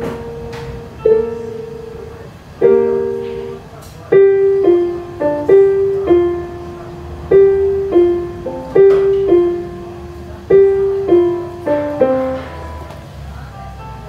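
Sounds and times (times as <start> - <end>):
electronic keyboard piano melody: 0.0 - 14.0.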